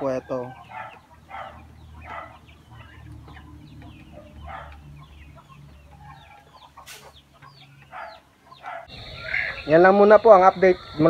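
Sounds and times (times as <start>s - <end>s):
chicks peeping and clucking: 0.0s - 11.0s.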